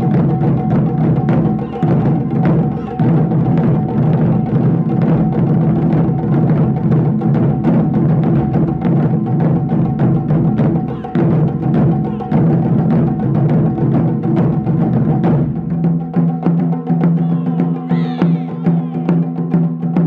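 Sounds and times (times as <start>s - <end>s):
taiko drums booming: 0.0s - 20.0s.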